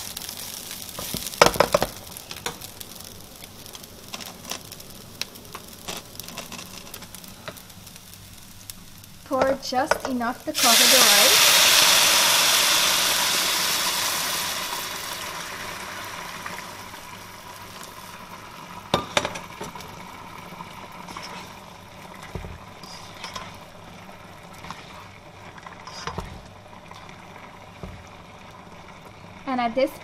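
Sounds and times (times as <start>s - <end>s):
bubbling simmer: 0.0s - 30.0s
water sizzling in hot pan: 0.0s - 30.0s.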